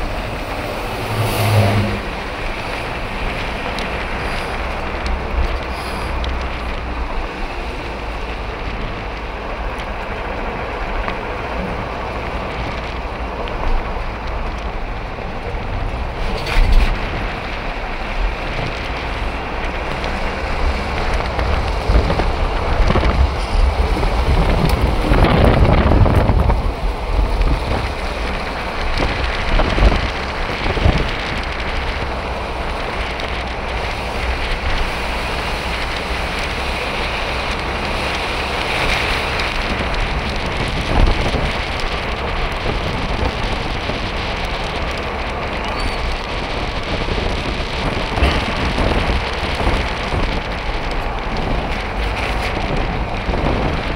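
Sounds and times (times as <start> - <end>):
car engine and tyres rumbling: 0.0 - 53.9
wind rushing past car: 0.0 - 53.9.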